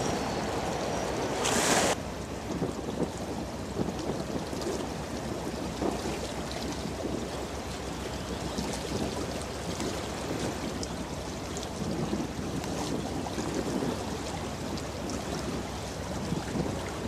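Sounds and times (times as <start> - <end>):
bow wave and wash: 0.0 - 17.0
wind on microphone: 0.0 - 17.0.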